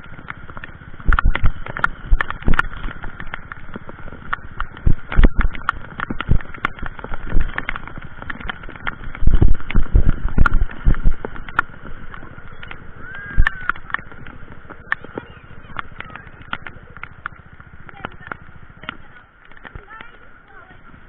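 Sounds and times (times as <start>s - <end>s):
heavy low thumps: 0.0s - 19.2s
creek water rushing: 0.0s - 21.0s
sharp taps and clicks: 0.1s - 20.3s.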